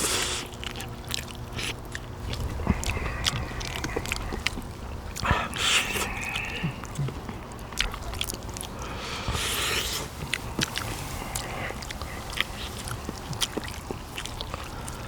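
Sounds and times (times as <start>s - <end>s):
close chewing and biting: 0.0s - 15.0s.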